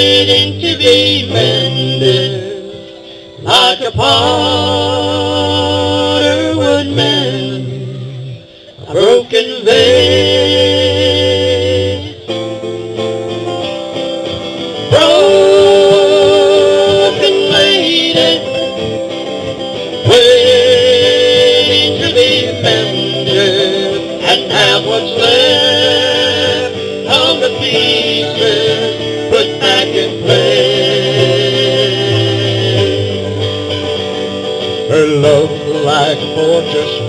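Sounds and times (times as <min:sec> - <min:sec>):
guitar plucked and strummed: 0:00.0 - 0:37.0.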